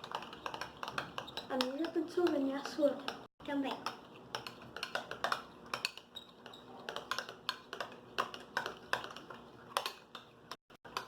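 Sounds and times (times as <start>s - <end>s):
utensils scraping against bowls: 0.0s - 11.0s.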